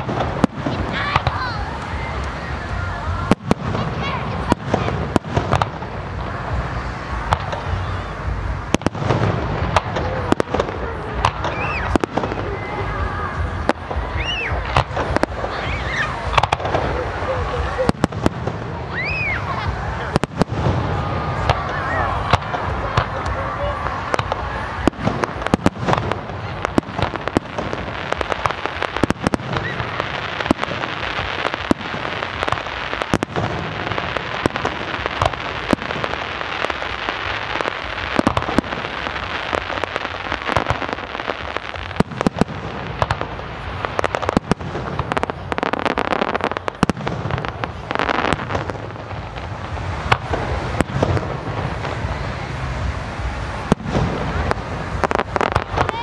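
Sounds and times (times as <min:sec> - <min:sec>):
fireworks banging: 0:00.0 - 0:56.0.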